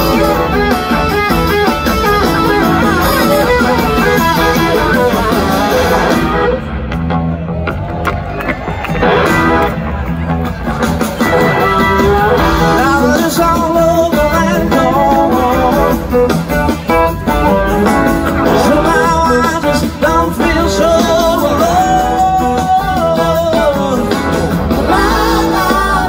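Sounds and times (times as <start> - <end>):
blues-rock band playing: 0.0 - 26.0.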